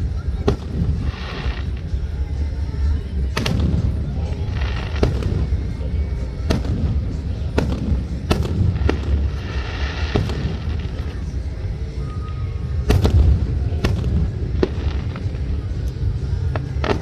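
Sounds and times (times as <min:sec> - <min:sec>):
fireworks bangs: 0:00.0 - 0:17.0
low rumble: 0:00.0 - 0:17.0.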